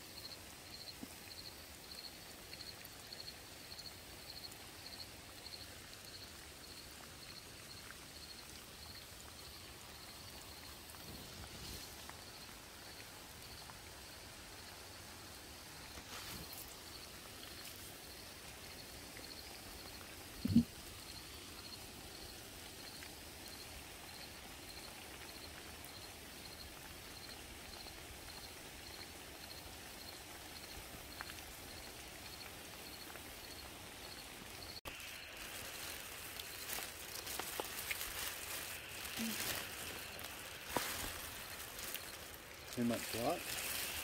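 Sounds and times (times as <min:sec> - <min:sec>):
soft steady hiss: 0:00.0 - 0:44.0.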